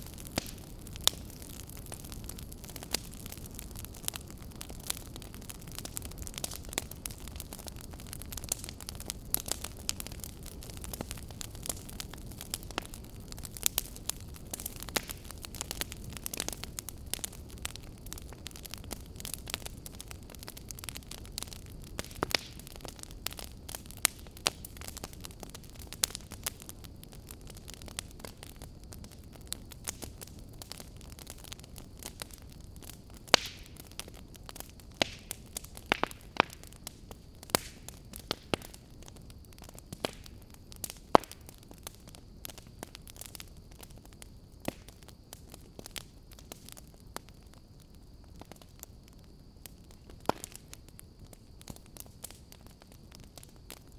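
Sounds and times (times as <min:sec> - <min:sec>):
low rush of flame: 0:00.0 - 0:45.3
fire crackling and popping: 0:00.0 - 0:53.9.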